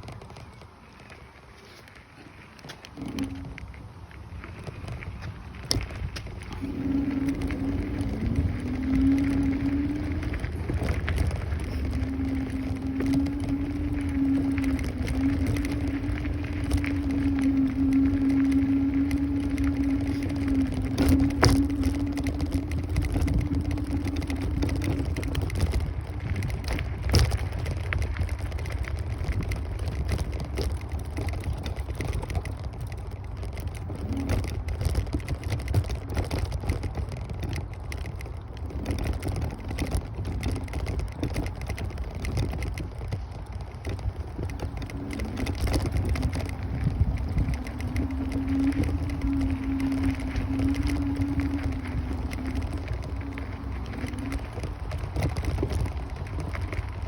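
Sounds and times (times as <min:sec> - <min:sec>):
electric scooter motor whine: 0:00.0 - 0:57.0
road rumble: 0:00.0 - 0:57.0
wind buffeting microphone: 0:00.0 - 0:57.0.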